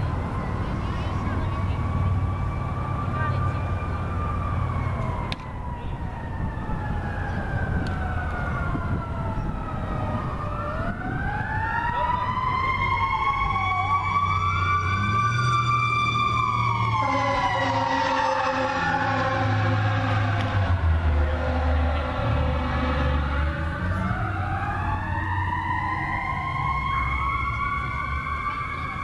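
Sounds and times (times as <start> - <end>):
emergency sirens wailing: 0.0 - 29.0.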